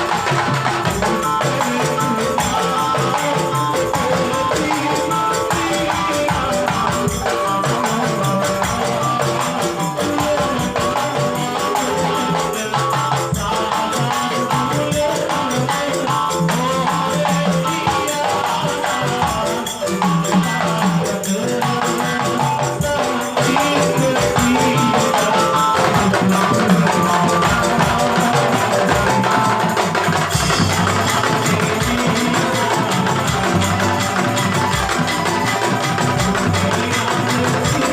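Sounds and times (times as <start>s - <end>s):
music with steady percussion: 0.0s - 37.9s.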